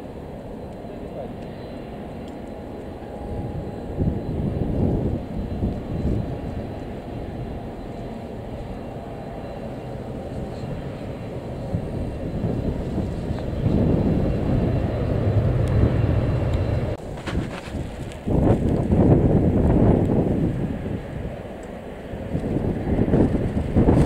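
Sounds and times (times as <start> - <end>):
jet engines rumbling overhead: 0.0 - 24.0
wind buffeting microphone: 0.8 - 24.0.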